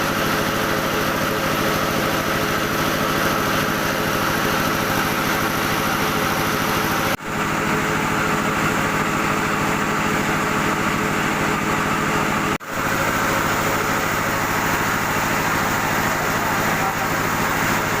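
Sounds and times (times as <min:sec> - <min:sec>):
rice mill machinery running: 0:00.0 - 0:18.0.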